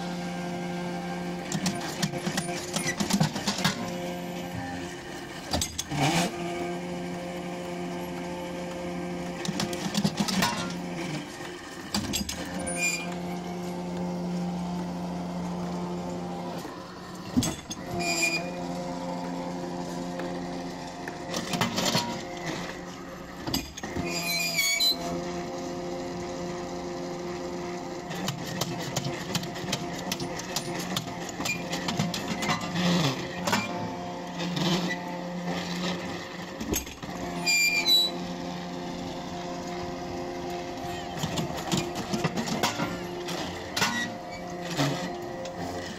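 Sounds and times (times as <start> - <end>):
electric winch humming: 0.0 - 45.9.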